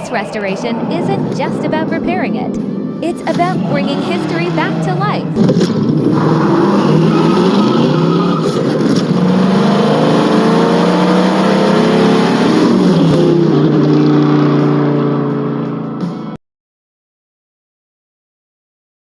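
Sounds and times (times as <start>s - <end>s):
car engine revving: 0.0s - 16.4s.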